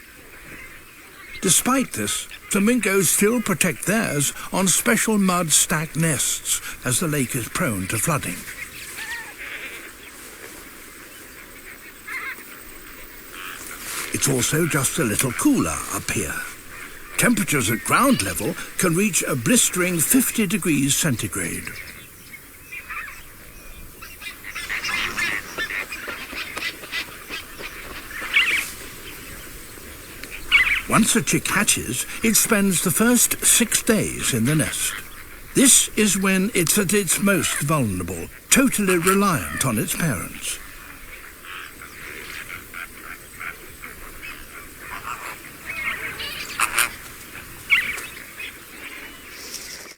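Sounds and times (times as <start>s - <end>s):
flamingos calling: 0.0s - 49.6s.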